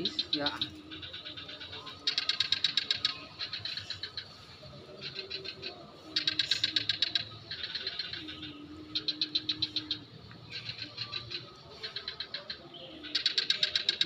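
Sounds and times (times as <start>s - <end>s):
bird chirping trills: 0.0s - 14.0s.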